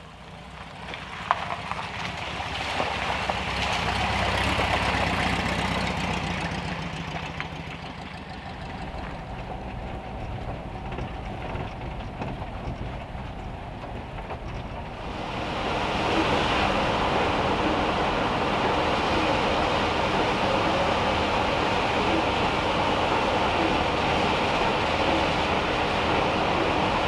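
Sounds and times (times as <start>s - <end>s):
heavy rain on a metal roof: 0.0s - 27.0s
low steady rumble: 0.0s - 27.0s.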